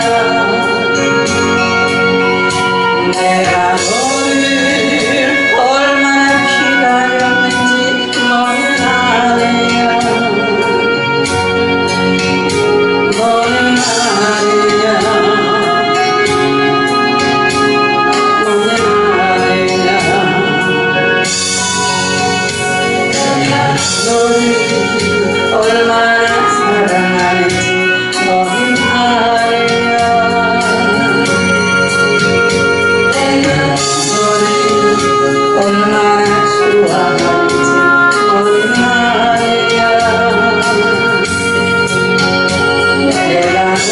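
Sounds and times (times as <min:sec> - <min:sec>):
instrumental accompaniment: 0:00.0 - 0:43.9
woman singing into a microphone: 0:00.0 - 0:43.9.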